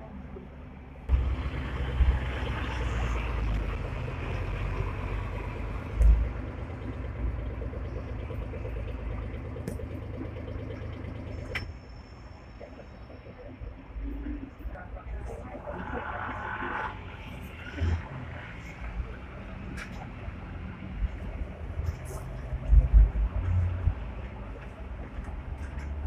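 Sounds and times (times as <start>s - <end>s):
tram motors and wheels rumbling: 0.0s - 26.0s.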